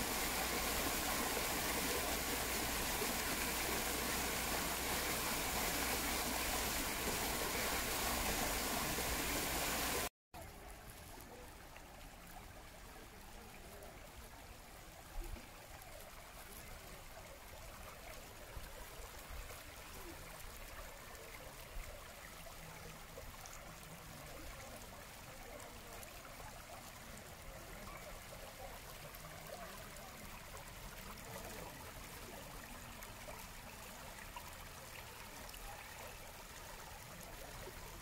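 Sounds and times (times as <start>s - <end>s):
stream trickling over stones: 0.0s - 38.0s.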